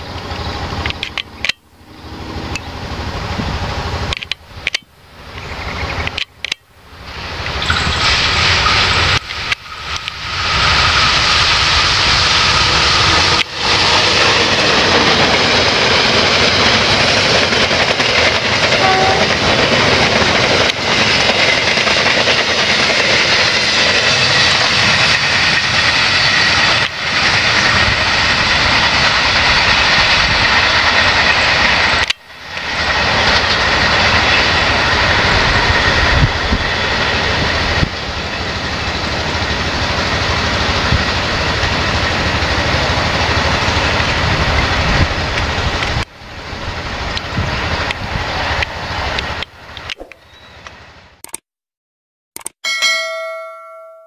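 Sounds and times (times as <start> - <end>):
train wheels rushing on rails: 0.0 - 51.2.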